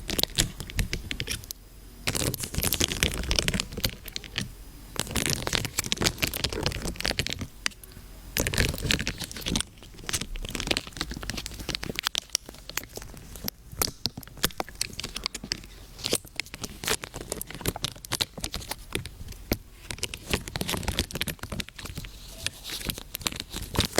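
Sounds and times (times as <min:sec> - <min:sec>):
crinkling and crackling clicks: 0:00.0 - 0:23.9.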